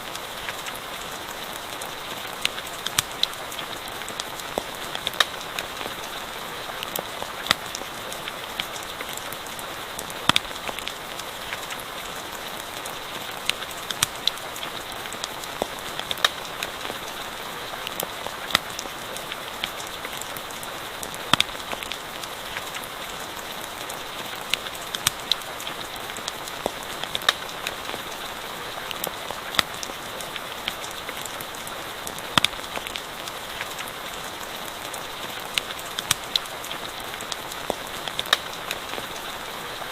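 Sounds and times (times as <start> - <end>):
steady rain hissing: 0.0 - 39.9
campfire crackling and popping: 0.1 - 39.9.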